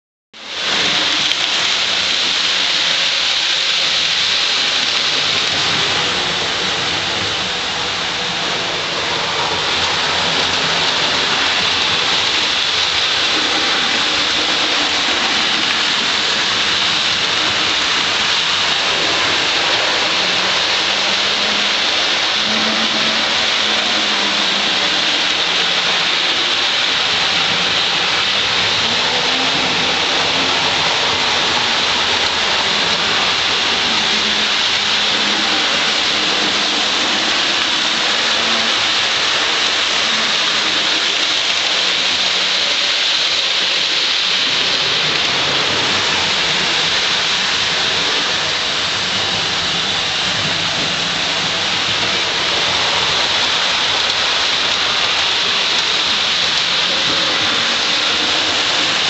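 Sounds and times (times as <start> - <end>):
model train whirring on track: 0.4 - 59.0.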